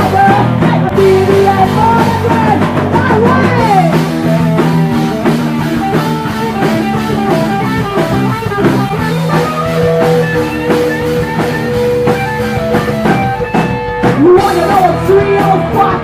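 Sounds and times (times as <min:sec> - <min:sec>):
drum kit beating: 0:00.0 - 0:16.0
guitar chords: 0:00.0 - 0:16.0.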